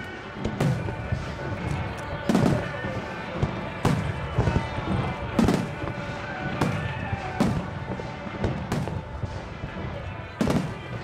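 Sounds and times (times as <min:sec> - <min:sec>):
music: 0:00.0 - 0:11.0
firework bangs: 0:00.3 - 0:11.0.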